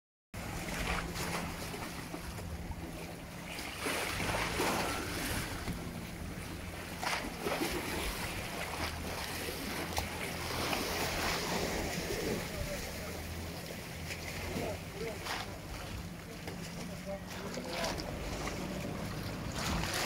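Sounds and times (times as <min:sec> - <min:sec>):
low steady hum: 0:00.4 - 0:20.0
sea water lapping against hull: 0:00.4 - 0:20.0.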